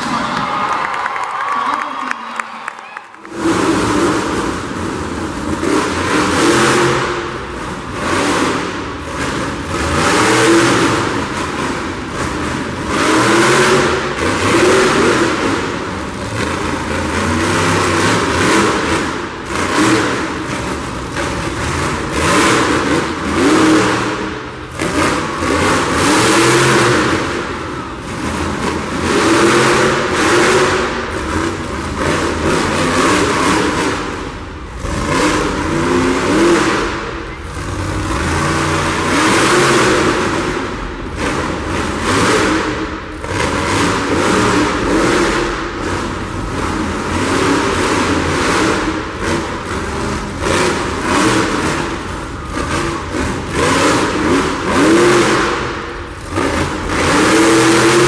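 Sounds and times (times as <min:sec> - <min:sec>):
truck engine revving: 0:03.1 - 0:58.0.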